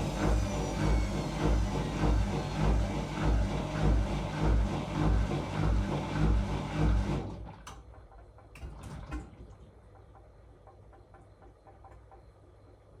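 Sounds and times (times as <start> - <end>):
washing machine noise: 0.0 - 12.6.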